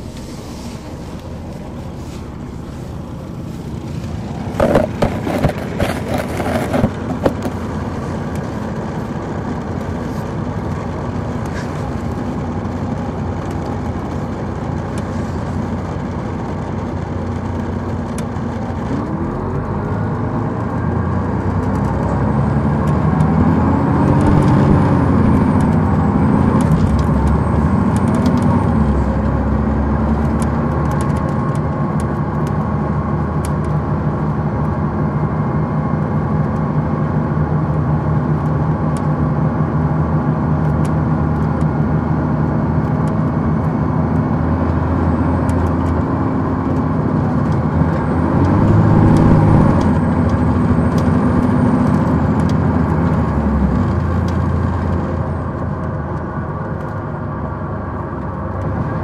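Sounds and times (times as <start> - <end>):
coach diesel engine: 0.0 - 59.0.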